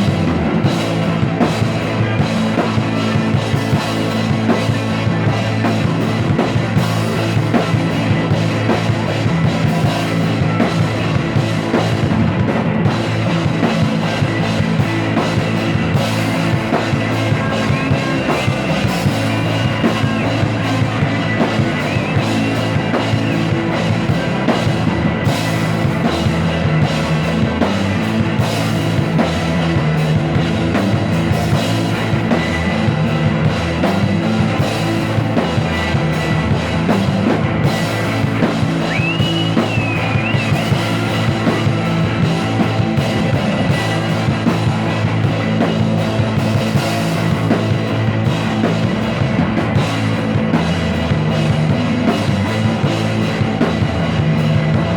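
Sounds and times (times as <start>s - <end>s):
drum kit: 0.0s - 54.9s
guitar: 0.0s - 54.9s
rock band playing: 0.0s - 54.9s.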